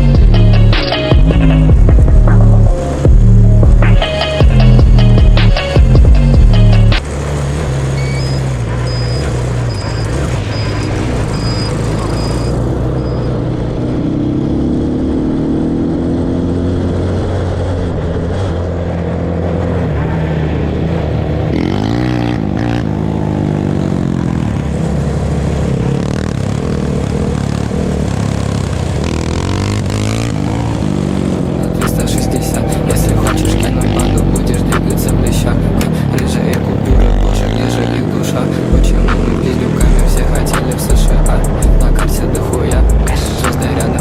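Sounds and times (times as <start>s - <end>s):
off-road vehicle engine running: 0.0s - 44.0s.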